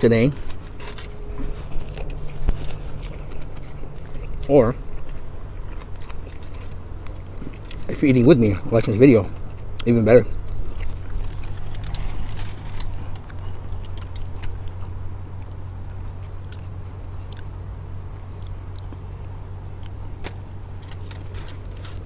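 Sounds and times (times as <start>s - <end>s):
close chewing: 0.0s - 22.0s
steady low hum: 0.0s - 22.0s.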